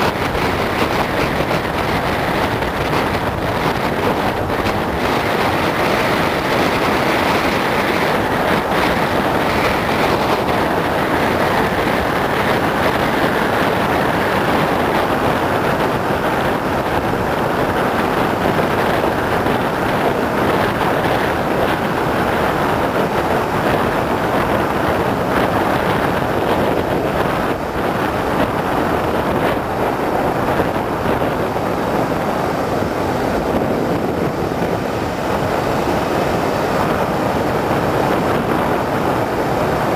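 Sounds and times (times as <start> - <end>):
car wind and road noise: 0.0 - 39.9.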